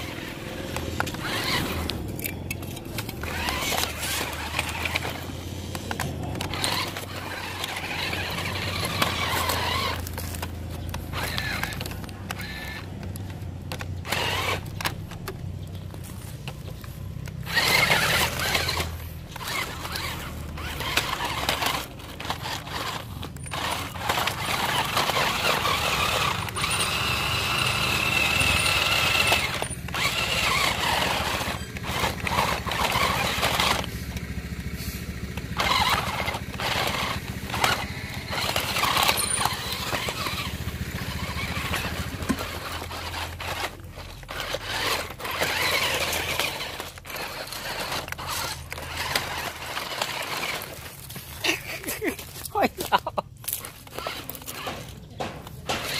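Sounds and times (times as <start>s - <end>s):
rubble scraping and clattering: 0.0s - 55.9s
toy truck motor whining: 0.0s - 55.9s.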